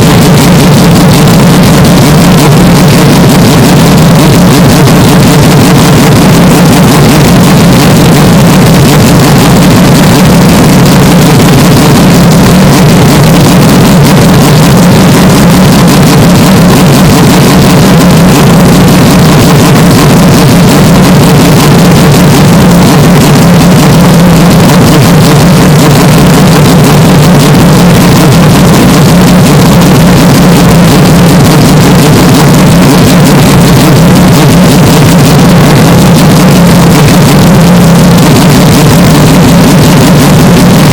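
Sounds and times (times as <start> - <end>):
car engine and exhaust droning: 0.0 - 40.9.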